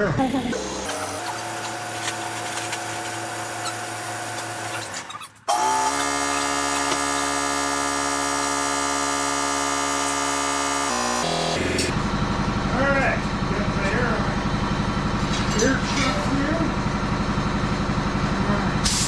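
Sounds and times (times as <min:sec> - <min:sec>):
air compressor motor humming: 0:00.0 - 0:19.0.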